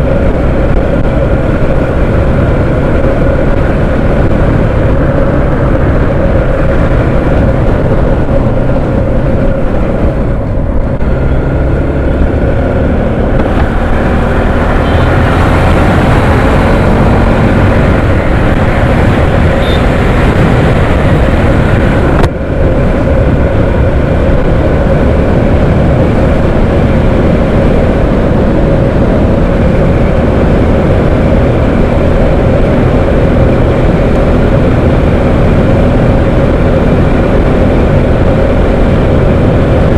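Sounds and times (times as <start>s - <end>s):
motorcycle engine running: 0.0s - 39.9s
rushing air noise: 0.0s - 39.9s.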